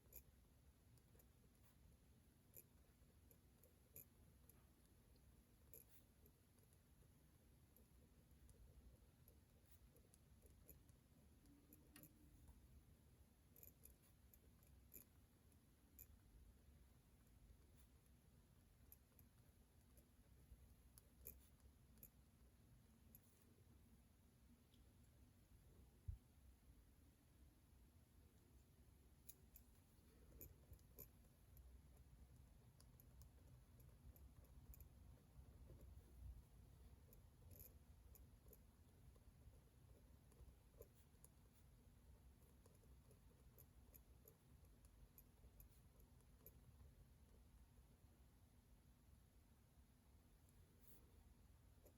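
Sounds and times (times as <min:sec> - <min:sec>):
light clicks and taps at a desk: 0:00.0 - 0:23.7, 0:28.4 - 0:47.7
low steady hum: 0:00.0 - 0:51.9.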